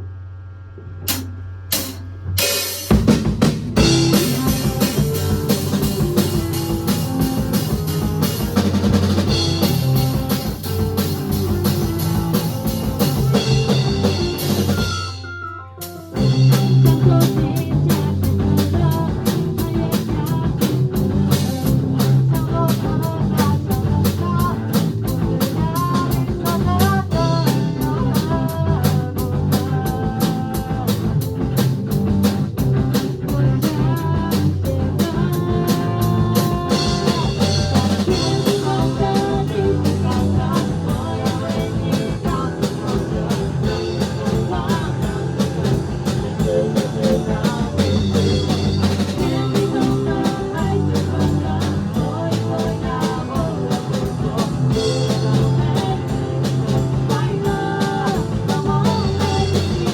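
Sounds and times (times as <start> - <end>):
drum kit beat: 0.8 - 59.9
instrumental rock music: 1.0 - 59.9.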